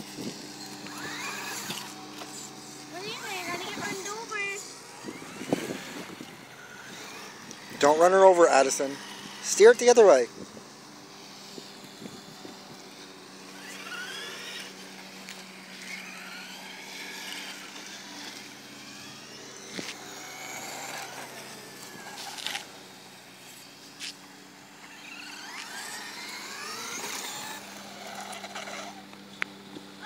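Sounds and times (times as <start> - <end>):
electric toy truck motors whining: 0.0 - 30.0.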